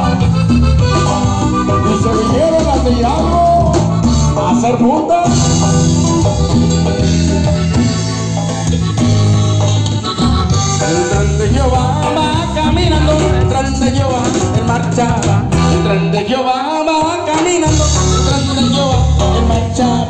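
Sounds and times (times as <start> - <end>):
bass guitar: 0.0 - 20.0
live band playing upbeat latin music: 0.0 - 20.0.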